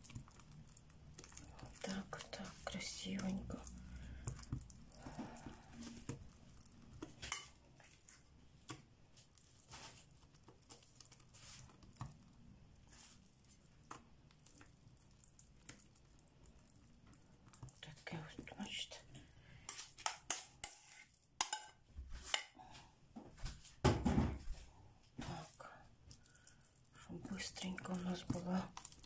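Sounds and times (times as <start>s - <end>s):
spoon spreading meat filling: 0.0s - 17.8s, 18.4s - 22.5s, 25.9s - 29.0s.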